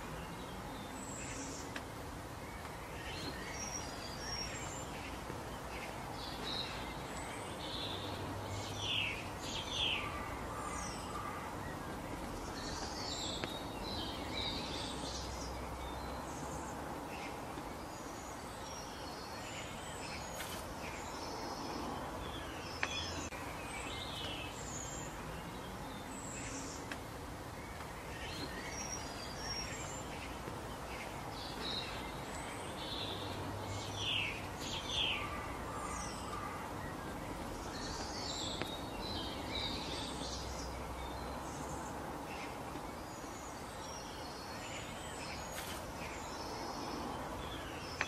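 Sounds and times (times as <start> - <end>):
birds chirping: 0.0 - 48.0
outdoor background hiss: 0.0 - 48.0.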